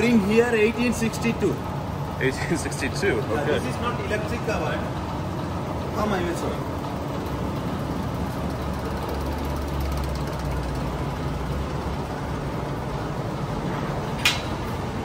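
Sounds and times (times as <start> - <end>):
factory machinery rumble and hum: 0.0 - 15.0.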